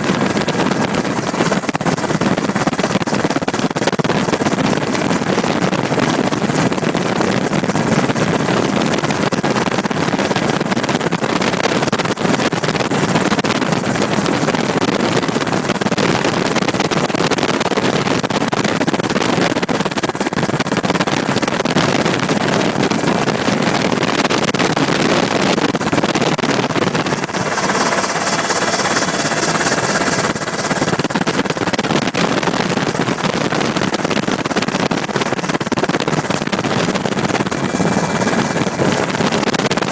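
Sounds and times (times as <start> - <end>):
aircraft cabin engine noise: 0.0 - 39.9.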